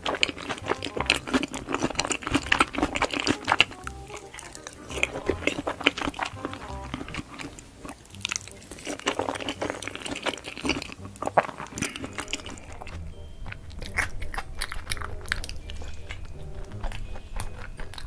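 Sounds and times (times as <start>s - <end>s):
another person chewing: 0.0s - 18.0s
person chewing food: 0.0s - 18.0s
wet mouth clicks: 0.0s - 18.0s.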